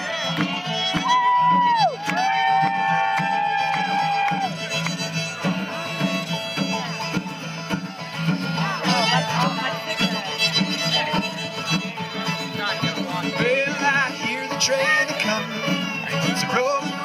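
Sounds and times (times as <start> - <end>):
fiddle sliding long notes: 0.0 - 17.0
guitar and bass rhythm: 0.0 - 17.0.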